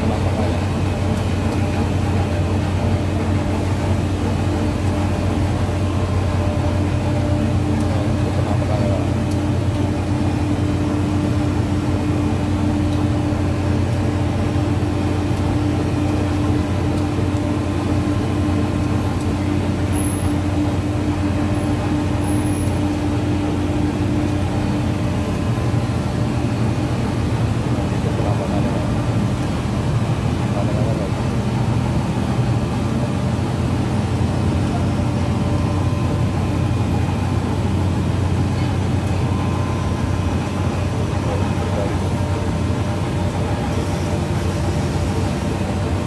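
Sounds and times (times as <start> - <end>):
blower motors droning: 0.0 - 46.0.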